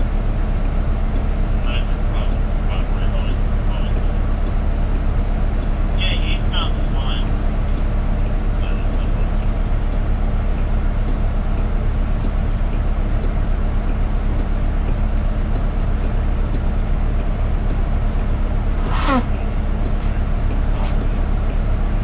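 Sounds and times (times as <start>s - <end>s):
bus diesel engine idling: 0.0s - 18.8s.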